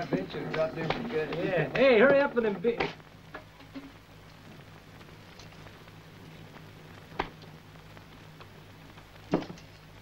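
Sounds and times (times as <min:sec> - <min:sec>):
faint crackle and ticks: 0:00.0 - 0:10.0
low film soundtrack hum: 0:00.0 - 0:10.0.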